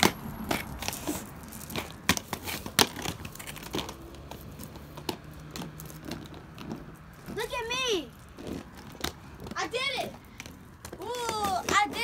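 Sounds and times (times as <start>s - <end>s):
skates clattering on concrete: 0.0s - 12.0s.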